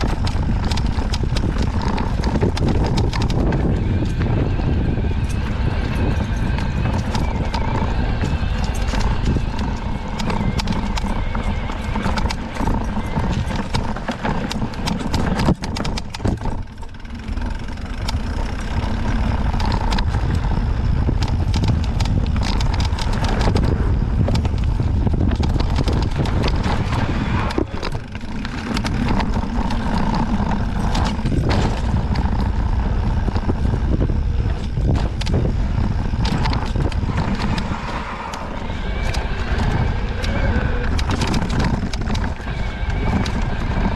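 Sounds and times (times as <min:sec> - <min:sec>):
bike clicks and knocks: 0:00.0 - 0:43.9
bike rolling rumble: 0:00.0 - 0:43.9
suspension fork cracking: 0:00.0 - 0:43.9.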